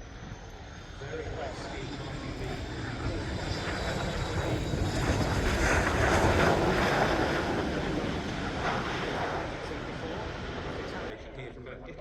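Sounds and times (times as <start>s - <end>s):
jet aircraft flying past: 0.0s - 11.2s
wind buffeting microphone: 1.4s - 11.1s.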